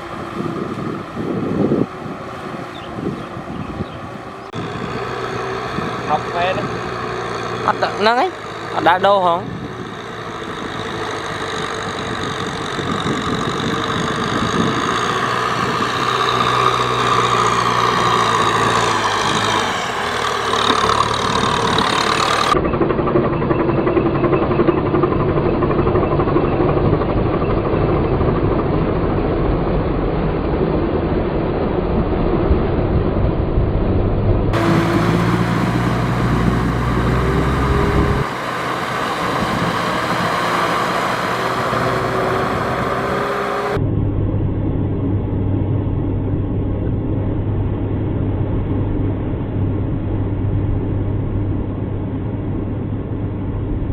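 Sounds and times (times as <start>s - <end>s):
tractor engine running: 0.0s - 30.8s, 34.5s - 53.9s.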